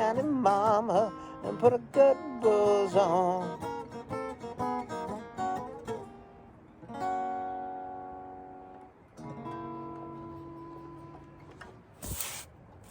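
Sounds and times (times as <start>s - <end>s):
acoustic guitar playing: 0.0s - 12.9s.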